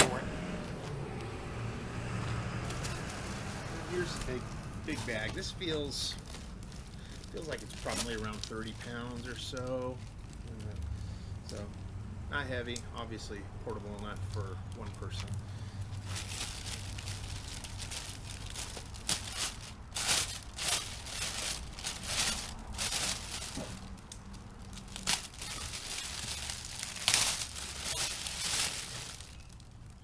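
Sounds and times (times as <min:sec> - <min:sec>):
plastic packaging crinkling: 0:02.6 - 0:10.9, 0:12.6 - 0:30.0.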